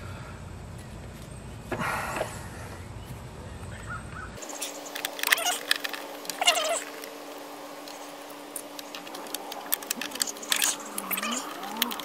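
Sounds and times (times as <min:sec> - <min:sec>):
harsh bird calls: 0:01.6 - 0:12.0.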